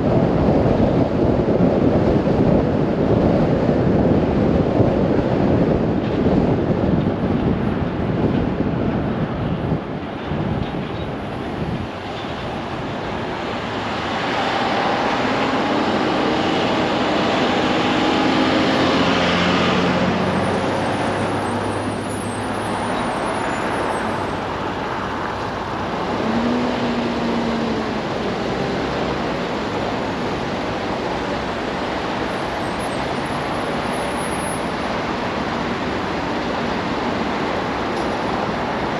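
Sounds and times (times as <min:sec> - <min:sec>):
wind rumble on microphone: 0:00.0 - 0:33.9
cars passing: 0:00.0 - 0:38.9.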